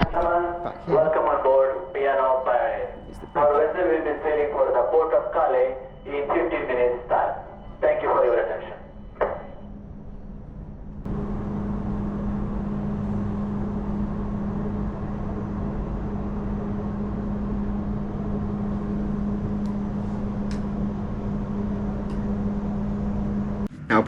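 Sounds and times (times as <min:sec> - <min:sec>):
ferry engines droning: 0:00.0 - 0:24.0.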